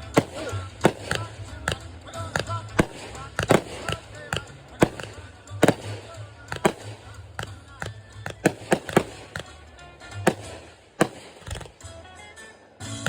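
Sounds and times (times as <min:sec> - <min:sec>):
fireworks popping and banging: 0:00.0 - 0:13.0
music playing: 0:00.0 - 0:13.0.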